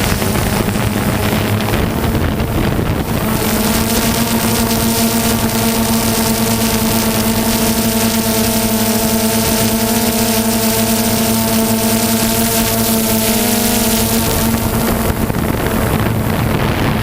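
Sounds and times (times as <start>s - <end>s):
engine running high pitch: 0.0s - 17.0s.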